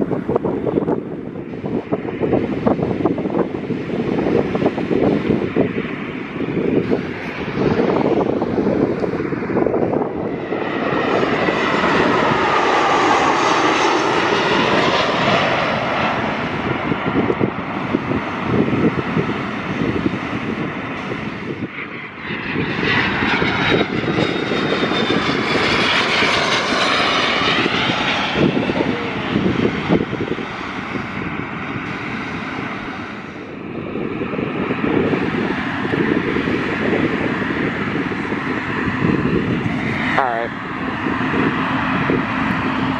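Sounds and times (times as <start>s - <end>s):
jet aircraft passing: 0.0s - 42.9s.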